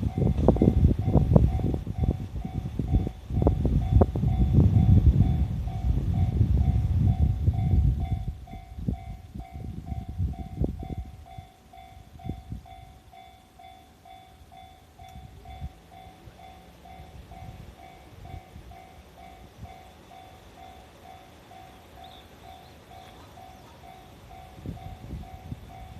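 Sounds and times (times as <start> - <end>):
level crossing warning bell: 0.0 - 25.9
train rumbling with clacks: 0.0 - 25.9.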